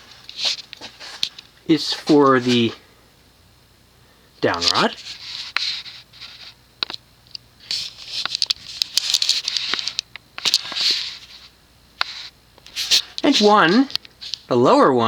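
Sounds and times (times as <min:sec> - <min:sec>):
rustling and scraping handling: 0:00.0 - 0:02.8, 0:04.5 - 0:07.0, 0:07.6 - 0:14.5.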